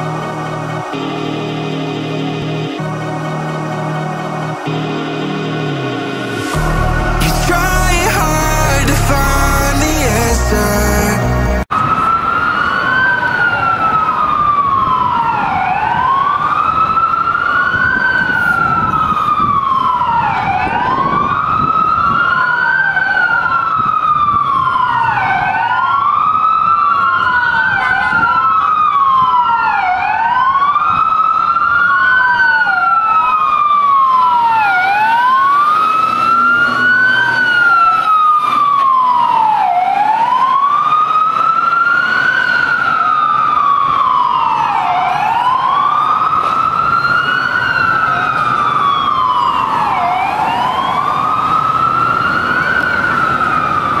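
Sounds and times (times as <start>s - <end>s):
emergency sirens wailing: 0.0s - 54.0s
road and engine rumble: 0.0s - 54.0s.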